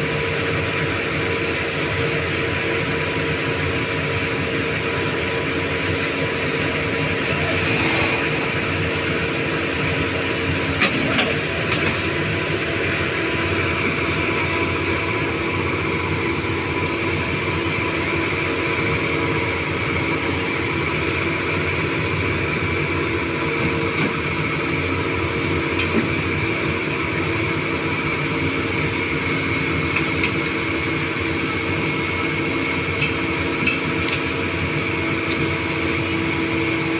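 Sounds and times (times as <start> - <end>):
excavator engine and hydraulics: 0.0 - 36.9.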